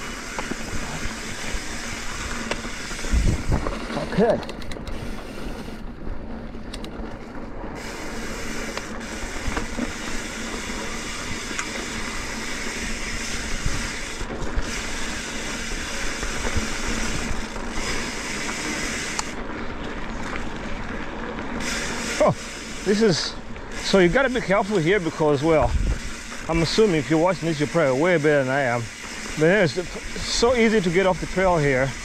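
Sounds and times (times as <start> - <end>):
bike clicks and rattles: 0.0 - 32.0
tyre and trail noise: 0.0 - 32.0.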